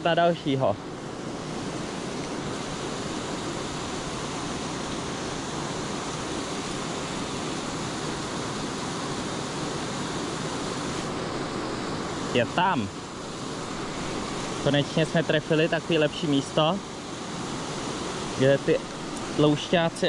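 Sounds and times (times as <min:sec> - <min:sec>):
water rushing over weir: 0:00.0 - 0:20.0.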